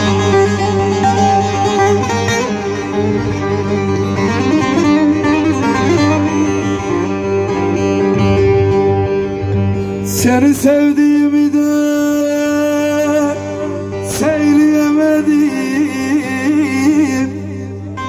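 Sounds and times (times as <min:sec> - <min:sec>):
bass: 0:00.0 - 0:18.0
plucked long-necked lute: 0:00.0 - 0:18.0.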